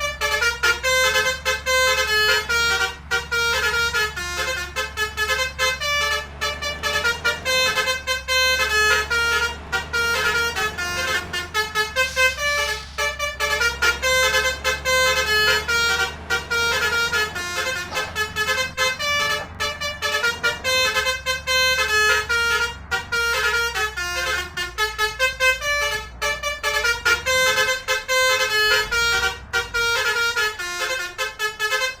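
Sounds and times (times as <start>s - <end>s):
low engine rumble: 0.0s - 32.0s
multi-trumpet musical horns: 0.0s - 32.0s.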